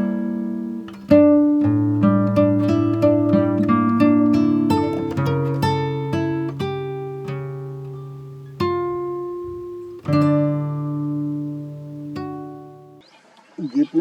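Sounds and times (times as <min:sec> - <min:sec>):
plucked acoustic guitar: 0:00.0 - 0:13.0.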